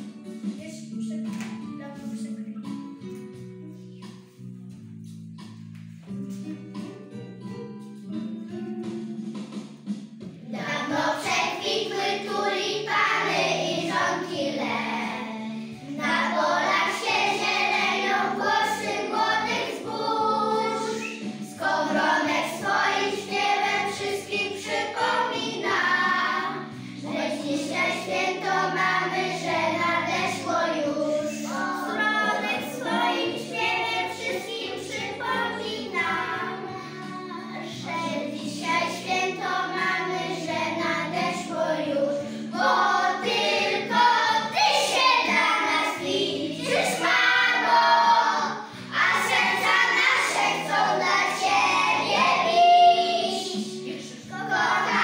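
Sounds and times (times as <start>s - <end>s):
instrumental accompaniment: 0.0s - 55.0s
children singing: 10.4s - 55.0s.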